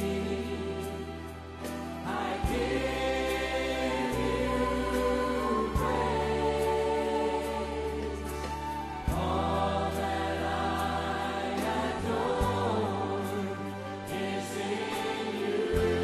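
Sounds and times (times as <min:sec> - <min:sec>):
choir singing a worship song: 0:00.0 - 0:16.0.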